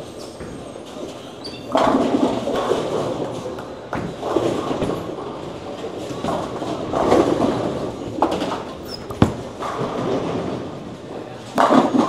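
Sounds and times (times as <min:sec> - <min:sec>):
bowling balls rolling: 0:00.0 - 0:12.0.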